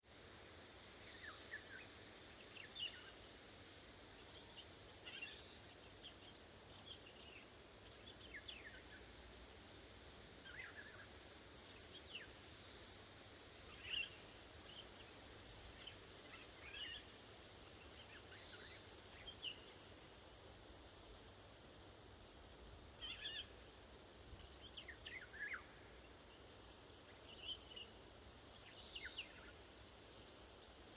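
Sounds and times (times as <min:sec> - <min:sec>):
faint wind: 0:00.0 - 0:30.9.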